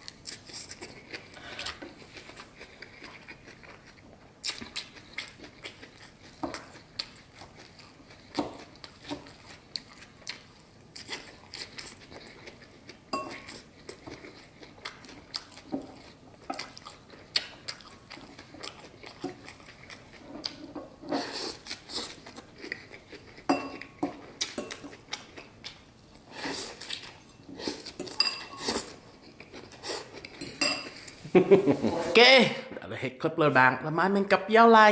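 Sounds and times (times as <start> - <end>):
chewing salad greens: 0.0 - 31.2.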